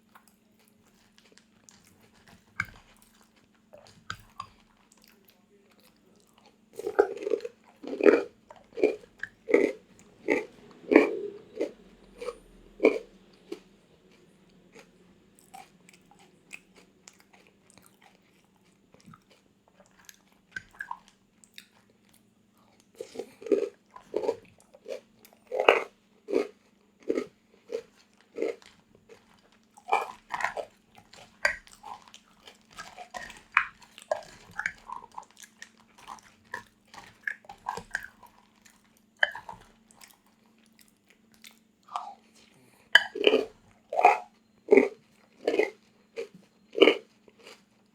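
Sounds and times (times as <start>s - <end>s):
crunchy food being chewed: 0.0s - 47.9s
faint steady hum: 0.0s - 47.9s.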